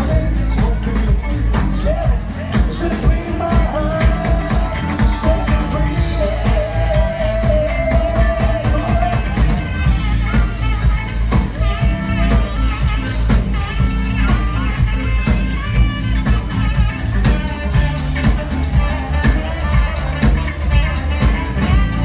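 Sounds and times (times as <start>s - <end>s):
bass guitar: 0.0s - 22.0s
drums: 0.0s - 22.0s
electric guitar: 0.0s - 22.0s
saxophone: 0.0s - 22.0s.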